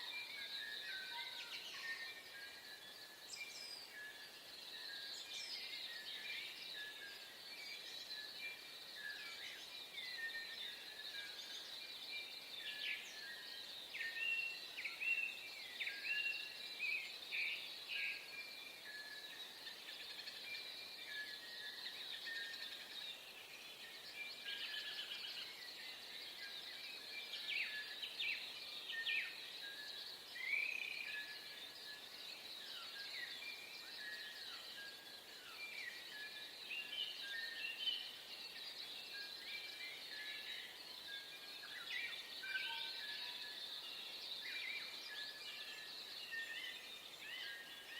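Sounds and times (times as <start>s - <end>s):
birds chirping chorus: 0.0s - 47.9s.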